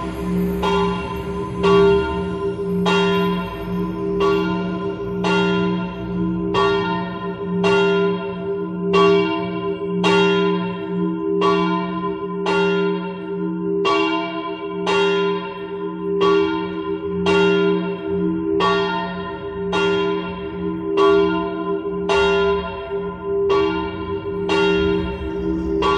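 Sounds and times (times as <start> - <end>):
church bell pealing: 0.0 - 25.9.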